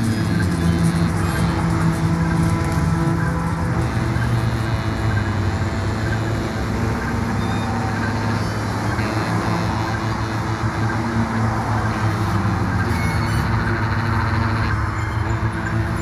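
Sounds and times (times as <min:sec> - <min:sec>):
traffic-like noise wash: 0:00.0 - 0:16.0.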